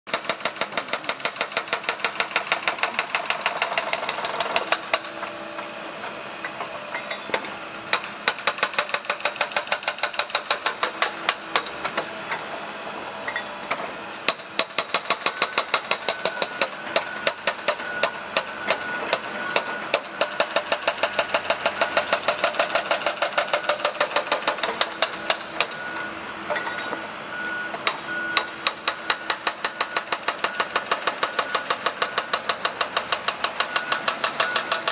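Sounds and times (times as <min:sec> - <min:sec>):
hydraulic breaker hammering pavement: 0:00.1 - 0:05.8, 0:06.5 - 0:12.4, 0:13.3 - 0:27.0, 0:27.7 - 0:34.9
diesel engine running: 0:00.6 - 0:34.9.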